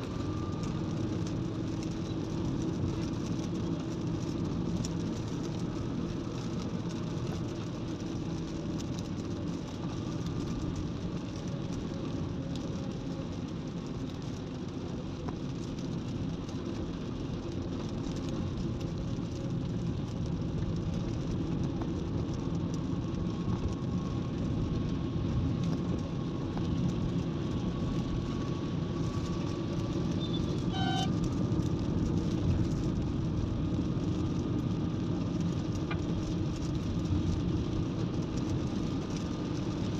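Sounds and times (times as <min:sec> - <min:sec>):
low engine hum: 0:00.0 - 0:39.9.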